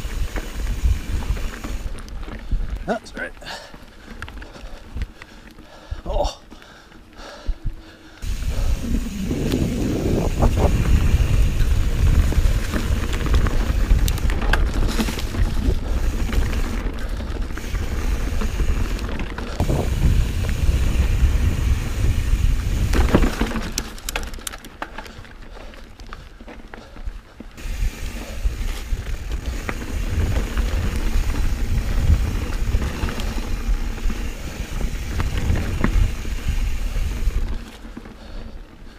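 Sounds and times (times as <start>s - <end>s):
bike rattling and clicking: 0.0s - 38.9s
bike tyres rumbling on dirt: 0.0s - 38.9s.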